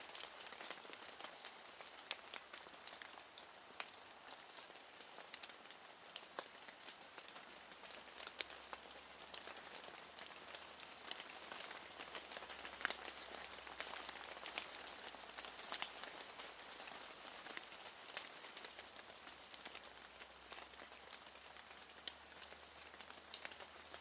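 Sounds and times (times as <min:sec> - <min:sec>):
rain hiss: 0:00.0 - 0:24.0
raindrops ticking on a window: 0:00.0 - 0:24.0.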